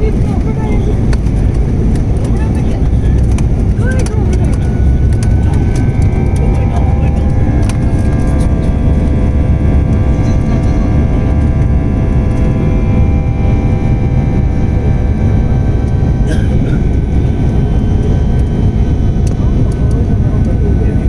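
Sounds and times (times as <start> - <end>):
airliner cabin rumble: 0.0 - 21.0
jet engine whine: 0.0 - 21.0.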